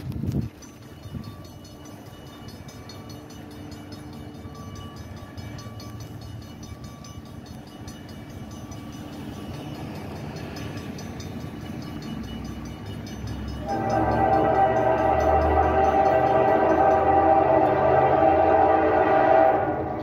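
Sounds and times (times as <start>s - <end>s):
distant freight train rumble: 0.0s - 20.0s.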